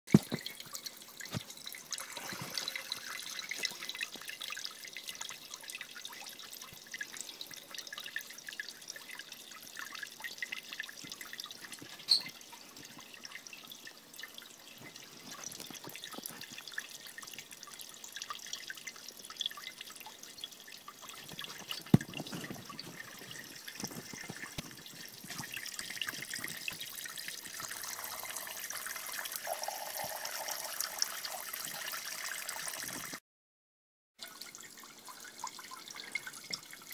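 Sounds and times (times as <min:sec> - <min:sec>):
water trickling into glass beakers: 0:00.2 - 0:33.2, 0:34.2 - 0:36.9.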